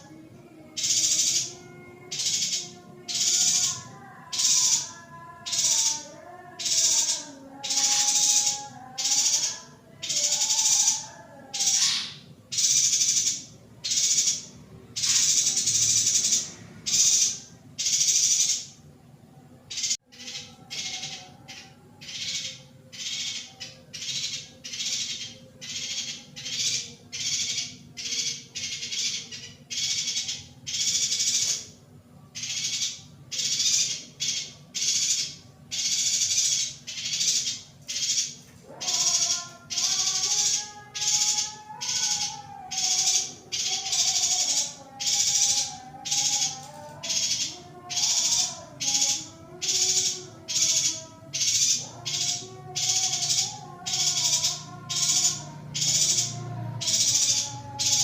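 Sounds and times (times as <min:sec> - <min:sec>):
high buzzy bird chirps: 0:00.0 - 0:18.8, 0:19.7 - 0:58.0.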